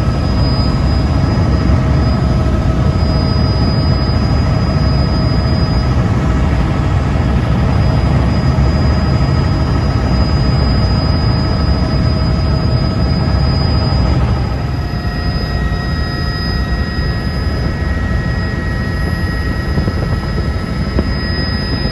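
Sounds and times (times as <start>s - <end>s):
helicopter engine and rotors droning: 0.0s - 21.9s
high whine: 0.0s - 21.9s.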